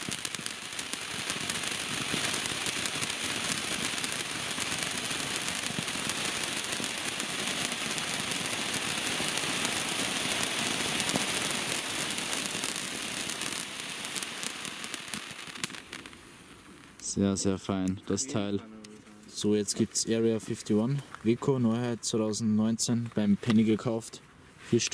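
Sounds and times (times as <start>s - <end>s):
firework fountain hissing and crackling: 0.0s - 21.9s.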